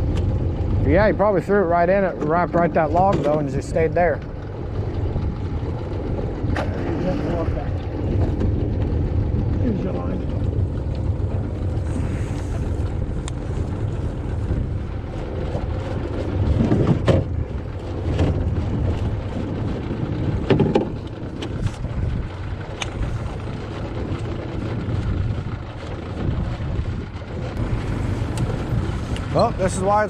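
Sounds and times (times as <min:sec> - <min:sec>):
small boat motor idling: 0:00.0 - 0:30.0
wind buffeting microphone: 0:00.0 - 0:30.0.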